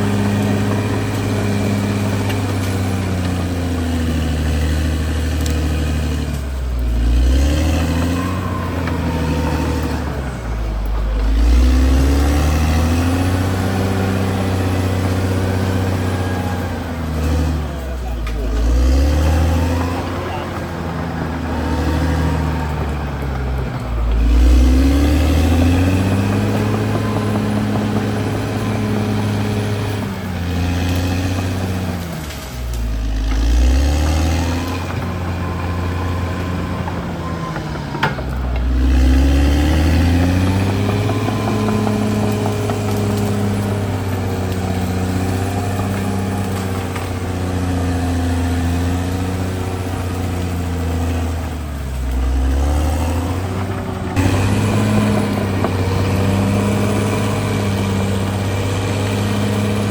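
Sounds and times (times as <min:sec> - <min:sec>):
bulldozer diesel engine running hard: 0:00.0 - 0:59.9.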